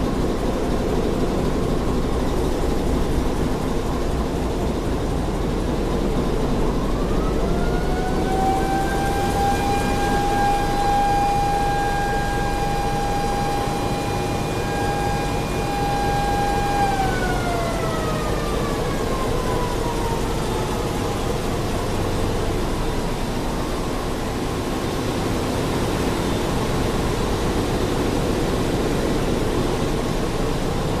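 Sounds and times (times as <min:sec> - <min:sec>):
engine room machinery: 0:00.0 - 0:31.0
high whine: 0:00.0 - 0:31.0.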